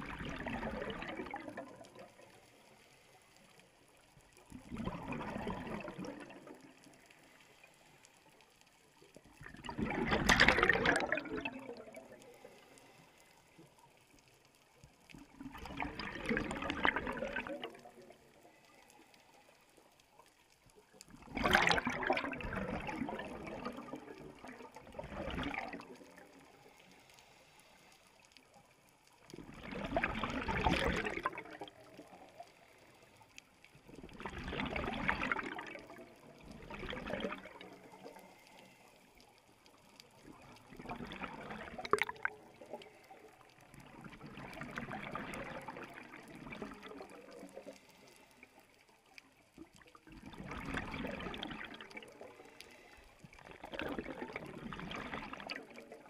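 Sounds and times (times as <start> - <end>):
underwater exhaust bubbles gurgling: 0.0 - 56.0.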